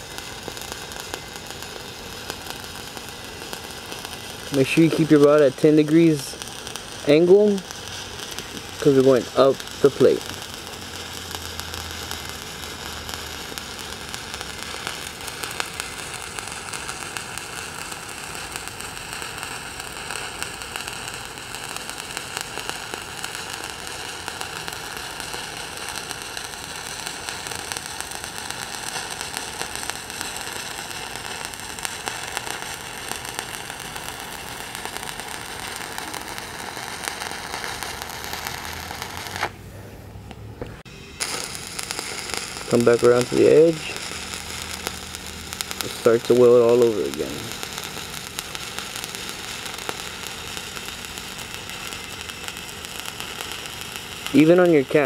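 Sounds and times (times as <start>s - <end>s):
welding arc crackling: 0.0s - 39.6s, 40.3s - 55.0s.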